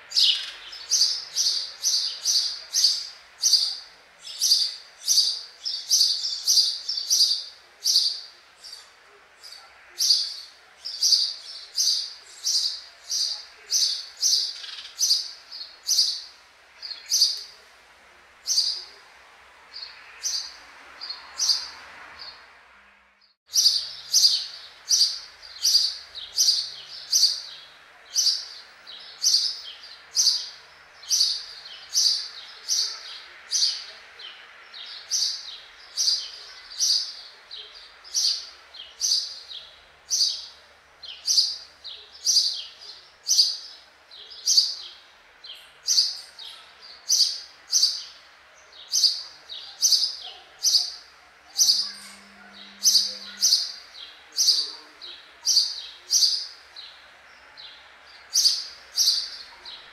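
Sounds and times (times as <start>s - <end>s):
sparrows chirping: 0.0s - 22.6s, 23.2s - 59.9s.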